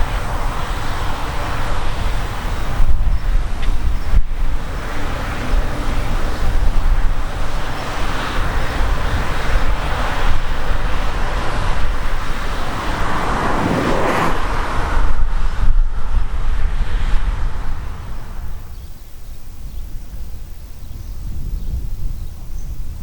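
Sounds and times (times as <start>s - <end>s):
harvest machinery running: 0.0s - 18.6s
wind rumbling on microphone: 0.0s - 23.0s.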